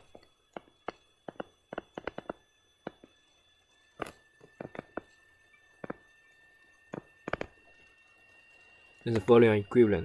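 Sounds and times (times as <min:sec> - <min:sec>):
faint high-pitched whine: 0:00.0 - 0:10.0.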